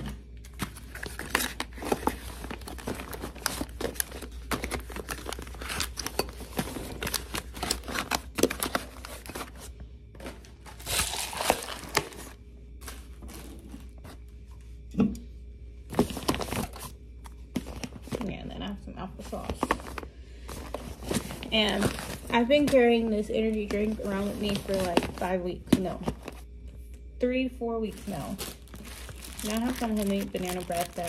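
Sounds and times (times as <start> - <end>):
plastic and foil crinkling: 0.4 - 14.2, 15.9 - 18.6, 19.2 - 26.5, 27.9 - 31.0.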